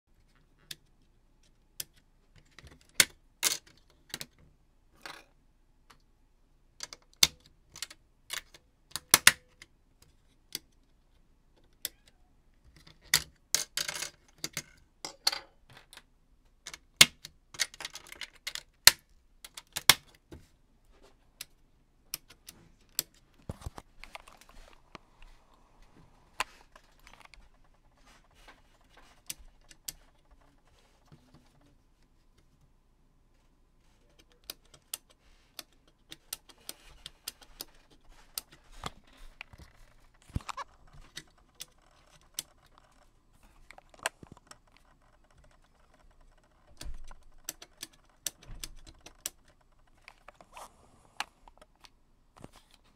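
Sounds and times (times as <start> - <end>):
plastic parts clicking and clattering: 0.1 - 6.0, 6.8 - 20.5, 21.1 - 25.3, 25.9 - 31.7, 33.8 - 50.6.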